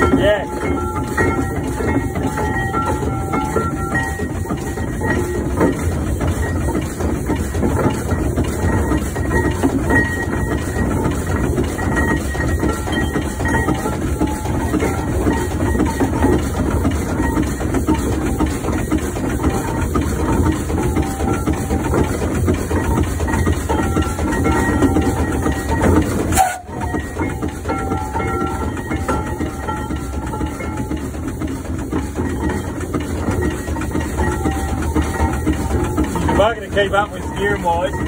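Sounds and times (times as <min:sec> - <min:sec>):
steam engine running: 0:00.0 - 0:38.0.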